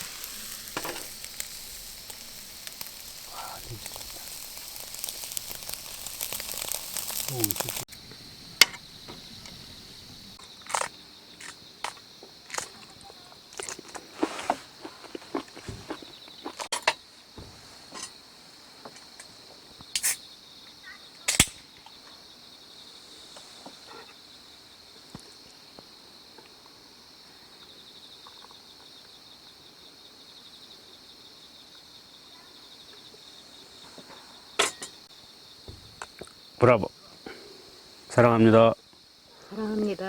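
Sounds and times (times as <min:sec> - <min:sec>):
insects chirping: 0:00.0 - 0:40.0.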